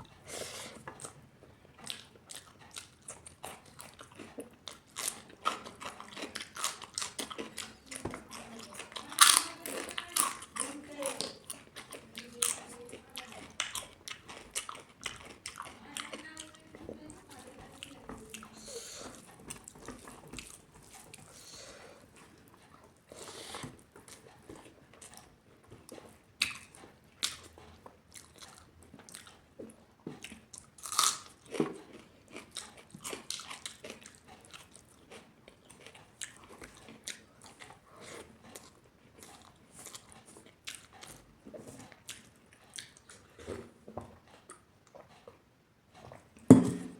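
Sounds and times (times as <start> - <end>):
person chewing and crunching food: 0.0 - 46.9.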